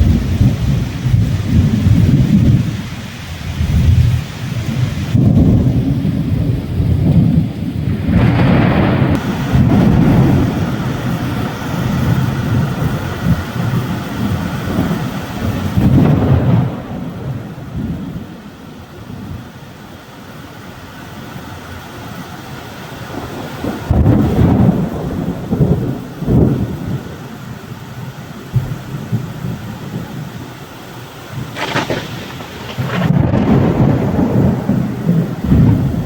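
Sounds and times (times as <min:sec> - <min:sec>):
rolling thunder: 0:00.0 - 0:19.6, 0:23.0 - 0:27.5, 0:28.4 - 0:30.5, 0:31.3 - 0:36.0
heavy rain hiss: 0:00.0 - 0:36.0.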